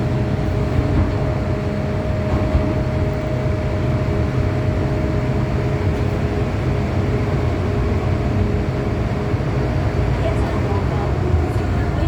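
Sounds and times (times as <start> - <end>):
train steady whine: 0.0 - 12.0
train wheels rumbling on rail: 0.0 - 12.0.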